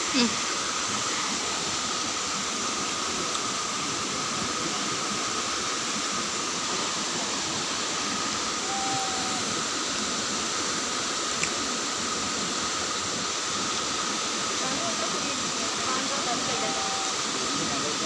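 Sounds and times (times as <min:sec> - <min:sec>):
waterfall rushing water: 0:00.0 - 0:18.0.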